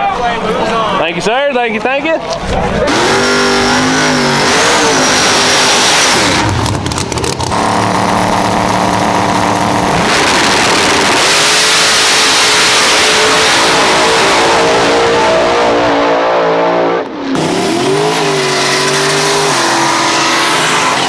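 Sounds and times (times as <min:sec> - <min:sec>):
race car engine revving: 0:02.3 - 0:21.0.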